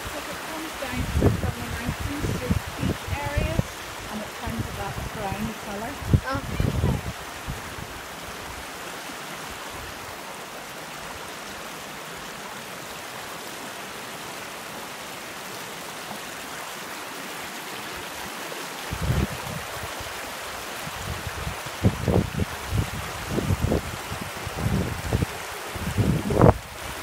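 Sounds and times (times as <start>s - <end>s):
water cascading over rocks: 0.0s - 27.0s.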